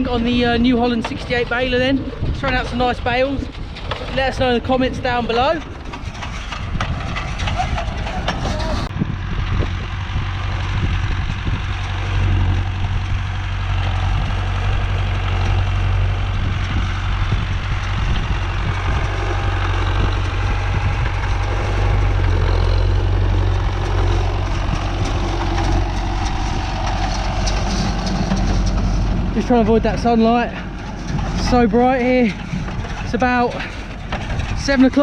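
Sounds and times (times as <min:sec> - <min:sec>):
baler machinery: 0:00.0 - 0:35.0
tractor engine running: 0:00.0 - 0:35.0.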